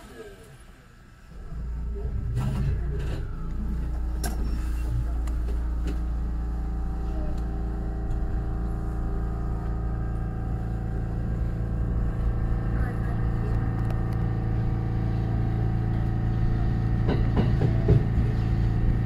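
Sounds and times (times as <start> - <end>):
electric train traction hum: 0.6 - 19.0.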